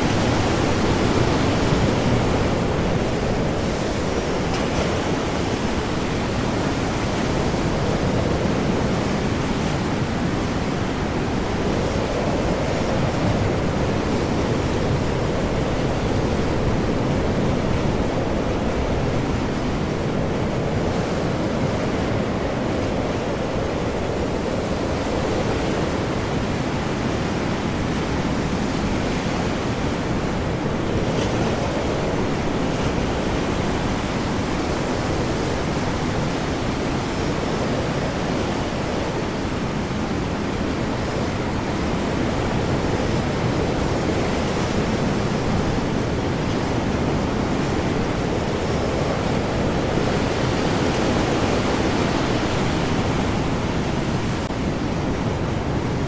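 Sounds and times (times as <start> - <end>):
stormy ocean waves and wind: 0.0 - 56.0.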